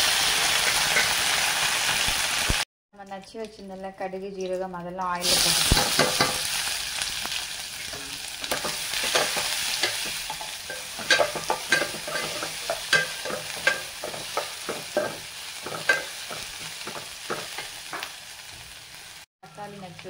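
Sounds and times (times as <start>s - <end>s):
paste sizzling in hot oil: 0.0s - 2.6s, 5.2s - 19.3s.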